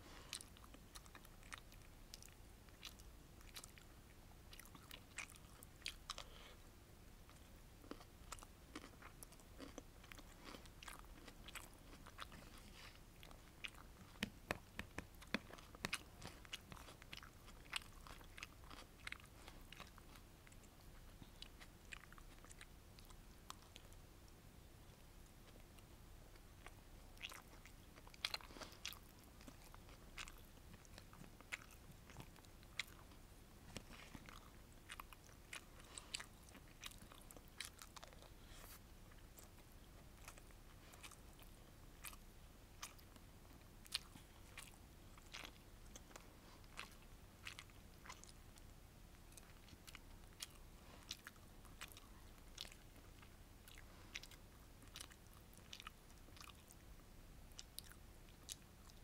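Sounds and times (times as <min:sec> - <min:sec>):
faint steady hiss: 0:00.0 - 0:59.0
chewing with mouth clicks: 0:00.1 - 0:59.0.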